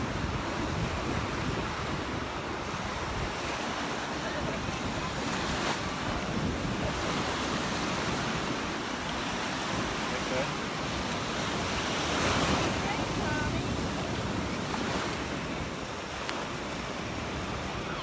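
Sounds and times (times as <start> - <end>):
surf waves breaking: 0.0 - 18.0
wind buffeting microphone: 0.0 - 18.0.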